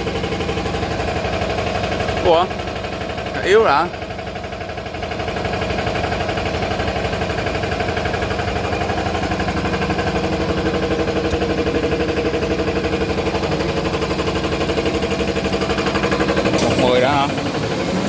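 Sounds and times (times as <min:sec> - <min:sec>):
machine humming rhythmically: 0:00.0 - 0:18.0.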